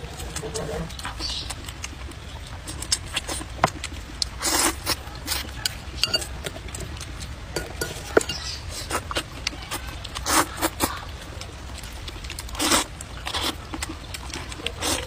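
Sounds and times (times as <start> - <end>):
noodles slurped and chewed: 0.0 - 15.0.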